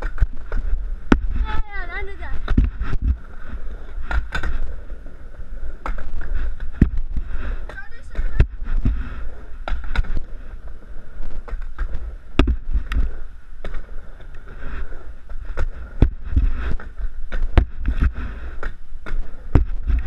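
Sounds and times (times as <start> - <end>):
skateboard wheels rumbling: 0.0 - 20.0.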